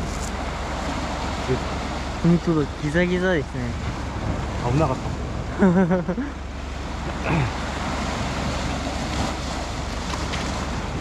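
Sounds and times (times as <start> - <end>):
surf washing over rocks: 0.0 - 11.0.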